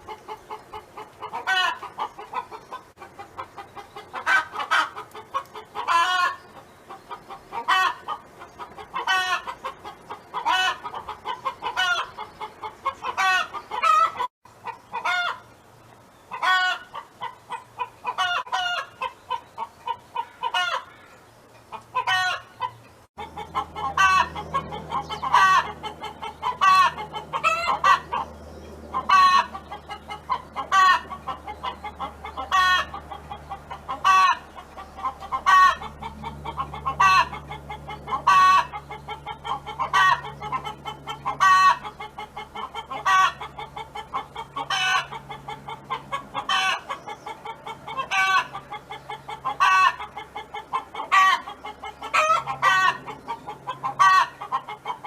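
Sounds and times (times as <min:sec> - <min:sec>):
hen clucking: 0:00.0 - 0:15.6, 0:16.3 - 0:55.0.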